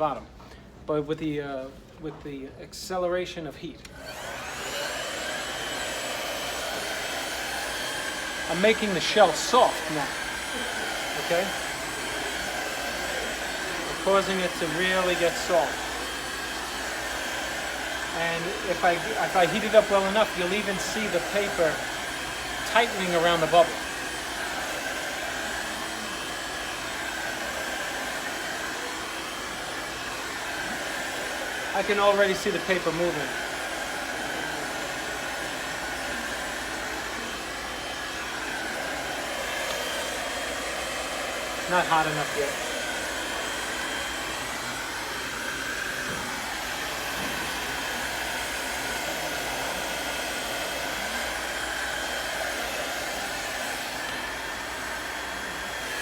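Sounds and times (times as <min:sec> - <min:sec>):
hot-air blower running: 0:03.8 - 0:56.0.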